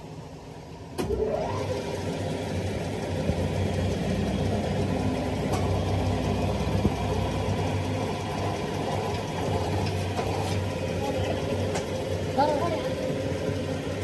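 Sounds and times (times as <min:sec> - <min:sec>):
hydraulic pump humming: 0:00.0 - 0:14.0.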